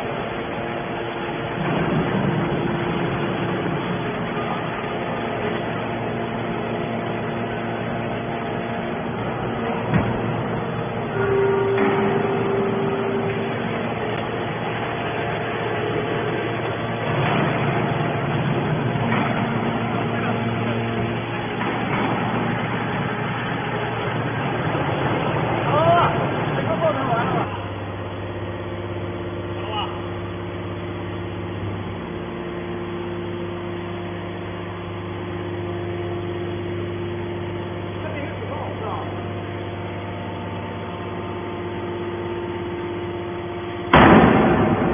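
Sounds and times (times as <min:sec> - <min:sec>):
baling machinery running: 0:00.0 - 0:44.9
steady whine: 0:00.0 - 0:44.9.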